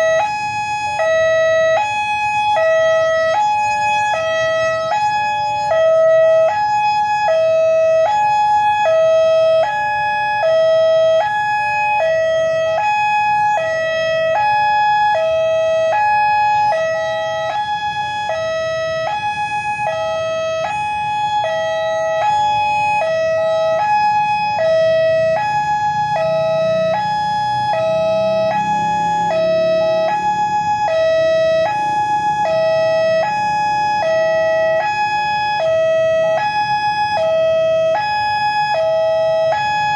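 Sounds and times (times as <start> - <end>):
two-tone level-crossing siren: 0.0 - 39.9.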